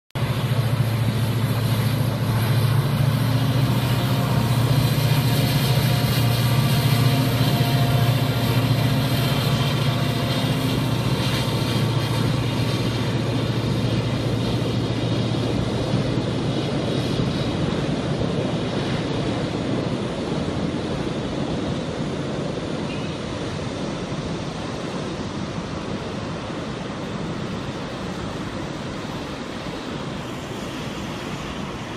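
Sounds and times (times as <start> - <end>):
diesel locomotive engine droning: 0.1 - 31.9
train wheels rumbling on bridge: 0.2 - 31.9.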